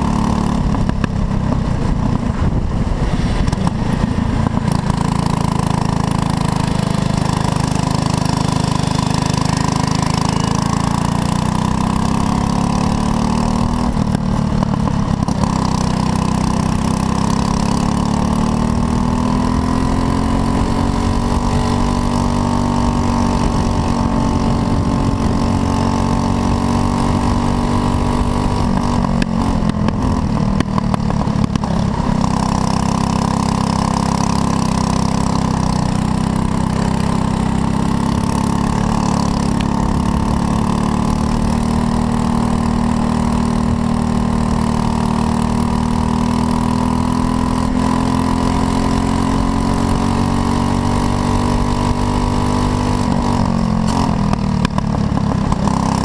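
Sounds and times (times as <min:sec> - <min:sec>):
kart engine revving high: 0:00.0 - 0:56.0.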